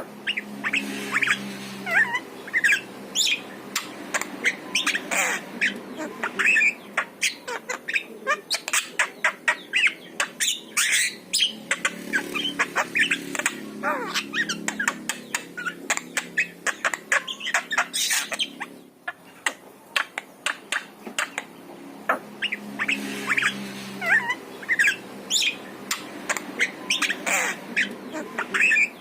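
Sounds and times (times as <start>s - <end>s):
myna calling: 0.0s - 21.5s, 22.1s - 29.0s.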